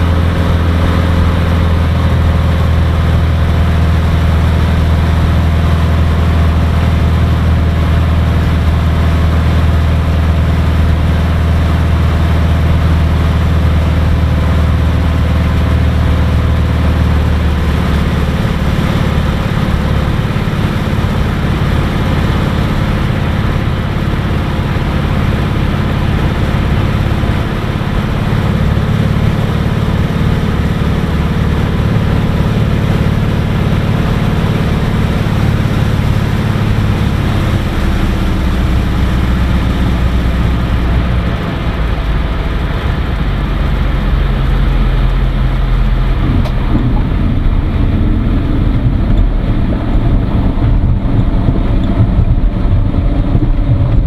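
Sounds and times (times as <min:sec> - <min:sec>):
propeller plane engine in cockpit: 0:00.0 - 0:54.0.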